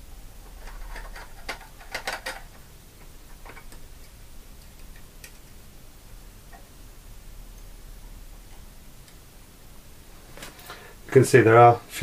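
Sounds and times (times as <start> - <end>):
solder flux crackling: 0.0 - 12.0.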